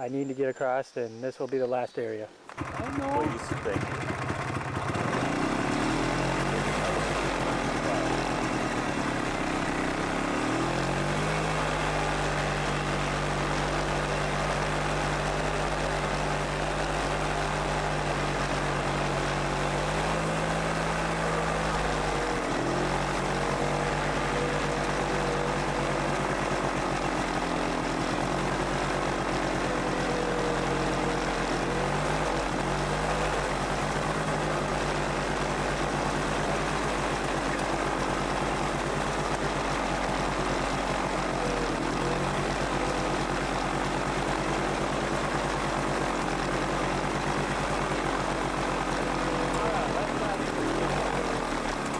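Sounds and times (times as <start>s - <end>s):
atv engine running: 2.4s - 51.9s.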